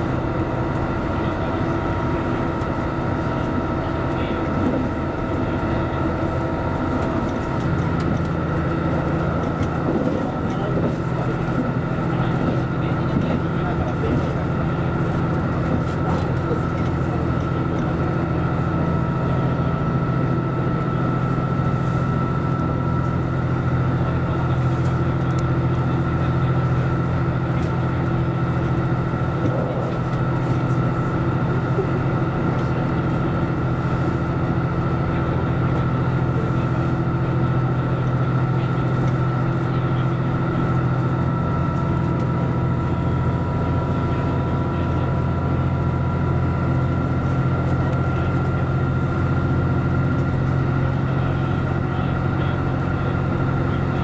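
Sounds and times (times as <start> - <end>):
diesel railcar engine drone: 0.0 - 54.0
engine whine: 0.0 - 54.0.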